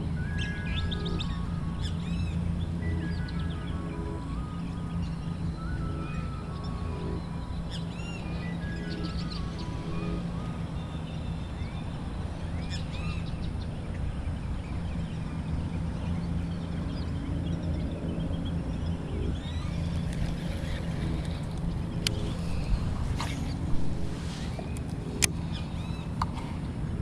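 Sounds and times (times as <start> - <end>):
birds chirping: 0.0 - 27.0
low engine hum: 0.0 - 27.0.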